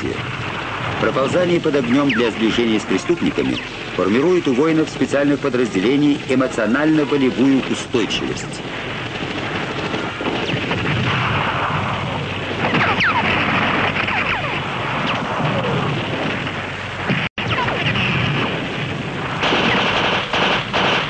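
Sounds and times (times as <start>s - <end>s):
dense gunfire and blasts: 0.0s - 21.0s.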